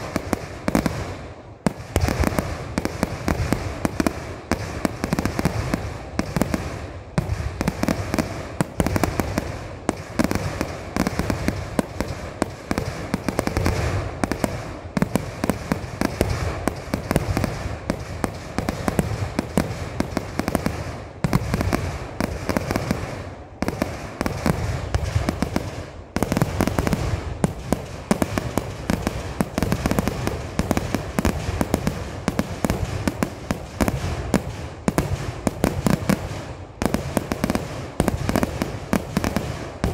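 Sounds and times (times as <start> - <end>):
firecracker explosions: 0.0 - 39.9.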